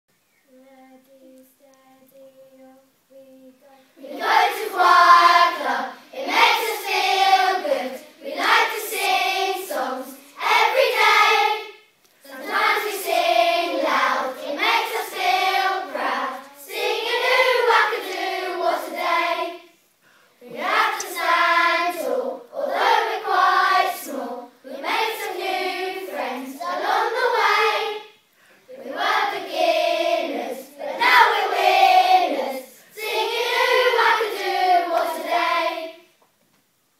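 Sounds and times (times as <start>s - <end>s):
children's choir singing: 4.0s - 19.8s, 20.4s - 36.2s.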